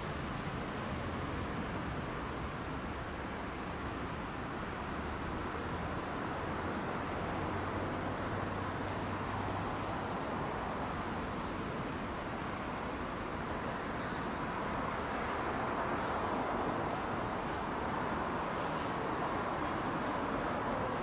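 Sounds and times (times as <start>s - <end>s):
cars on a busy street: 0.0s - 21.0s.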